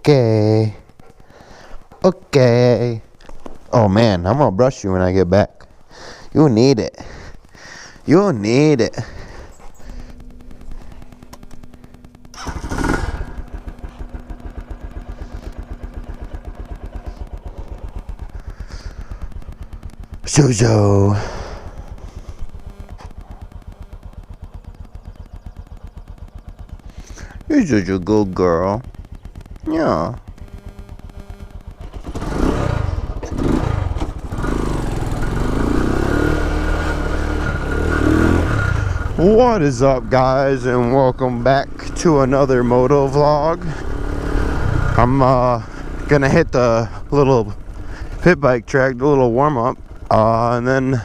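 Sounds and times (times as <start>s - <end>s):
motorcycle engine starting and idling: 0.0s - 51.0s
ticking whir: 0.0s - 51.0s.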